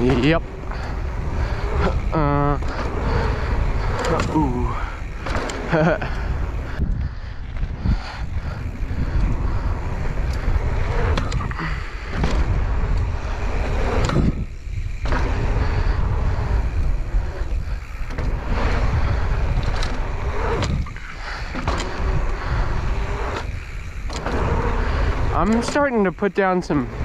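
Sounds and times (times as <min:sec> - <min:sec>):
bike tyres rolling on dirt: 0:00.0 - 0:27.0
wind buffeting the microphone: 0:00.0 - 0:27.0.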